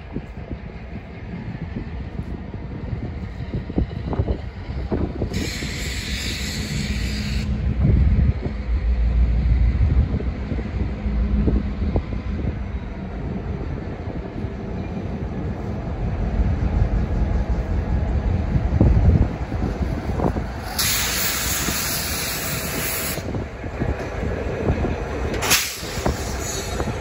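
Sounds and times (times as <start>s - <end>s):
locomotive engine rumble: 0.0s - 27.0s.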